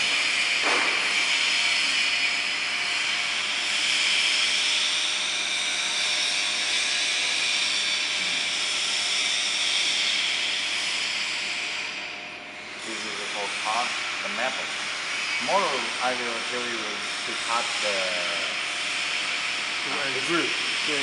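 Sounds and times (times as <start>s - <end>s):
machine whine with rushing hiss: 0.0s - 21.0s.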